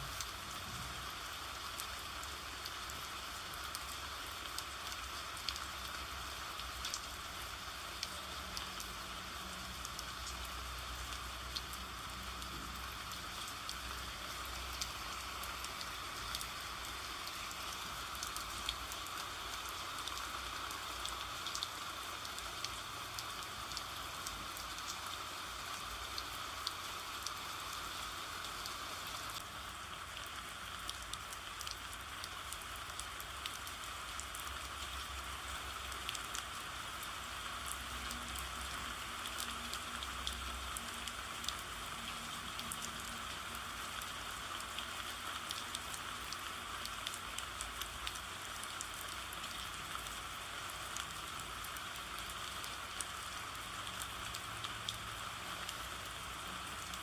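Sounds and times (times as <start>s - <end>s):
rain falling: 0.0s - 57.0s
raindrops pattering: 0.0s - 57.0s.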